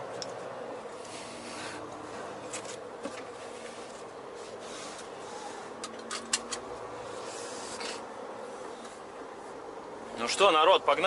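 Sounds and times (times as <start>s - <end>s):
truck engine hum: 0.0s - 11.0s.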